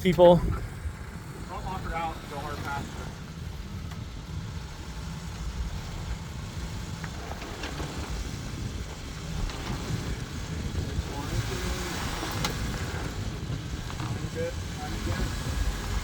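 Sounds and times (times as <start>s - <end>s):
engine running low: 0.0s - 16.0s.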